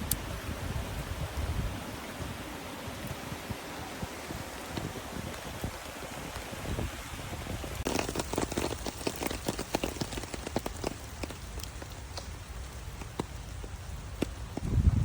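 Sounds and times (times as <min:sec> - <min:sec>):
rain drops striking close by: 0:00.0 - 0:15.0
steady hiss of rain: 0:00.0 - 0:15.0.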